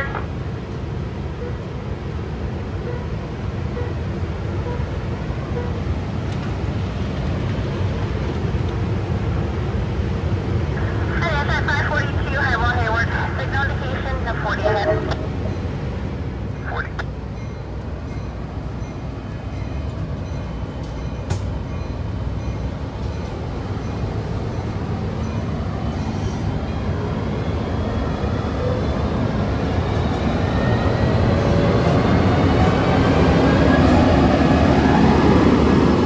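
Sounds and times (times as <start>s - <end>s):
diesel locomotive: 0.0s - 36.0s.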